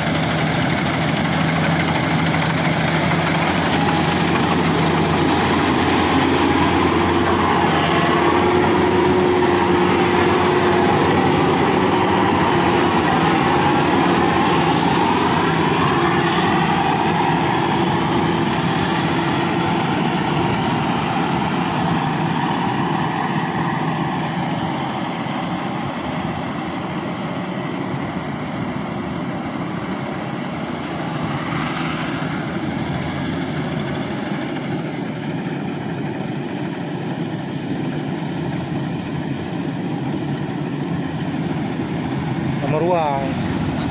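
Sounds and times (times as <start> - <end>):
combine harvester engine running: 0.0 - 43.9.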